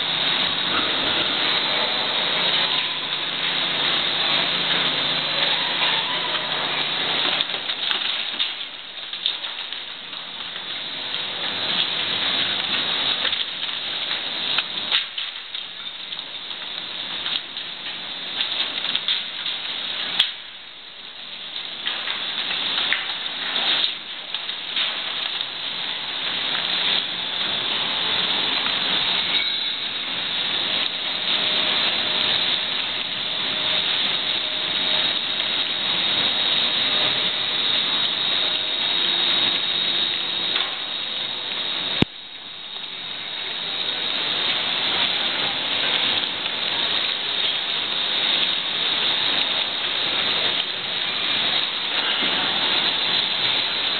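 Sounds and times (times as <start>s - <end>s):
hissing crackling industrial noise: 0.0s - 53.9s.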